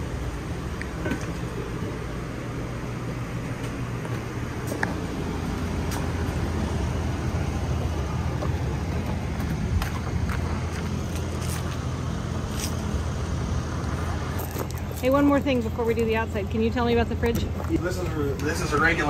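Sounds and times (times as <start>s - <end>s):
air conditioners humming: 0.0s - 19.0s.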